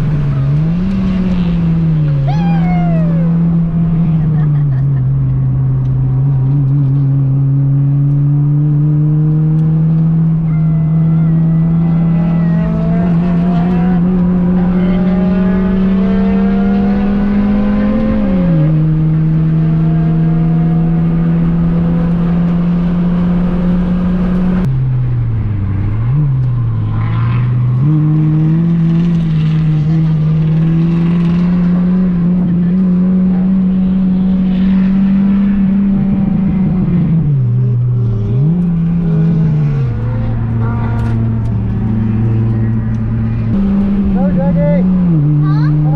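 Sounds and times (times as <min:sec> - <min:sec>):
car engine at high revs: 0:00.0 - 0:45.9.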